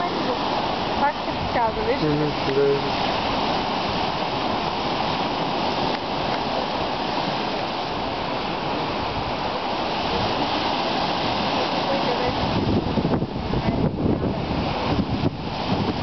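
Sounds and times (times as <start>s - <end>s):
surf washing on shore: 0.0s - 16.0s.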